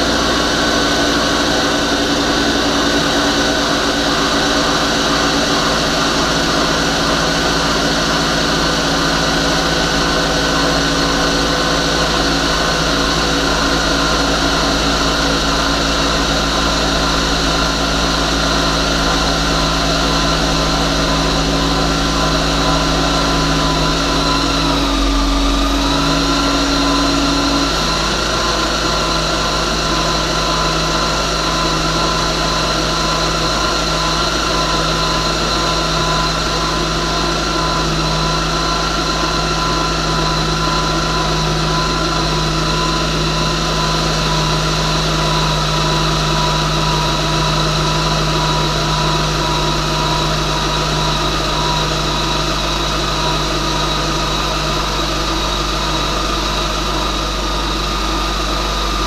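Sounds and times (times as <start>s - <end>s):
car engine idling: 0.0s - 59.0s
high whine: 0.0s - 59.0s
low hum: 9.3s - 59.0s.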